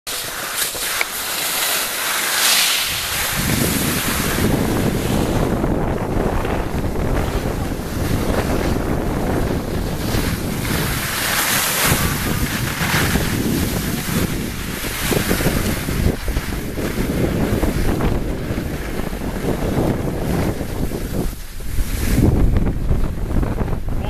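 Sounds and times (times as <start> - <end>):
skis sliding on snow: 0.1 - 23.7
wind rushing over microphone: 1.1 - 24.0.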